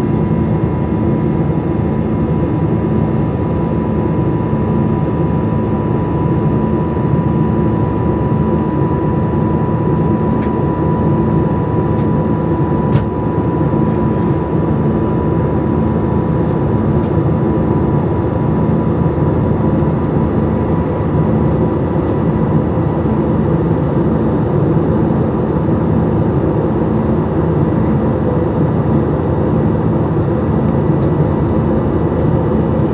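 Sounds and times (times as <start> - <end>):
airliner cabin engine drone: 0.0 - 32.9.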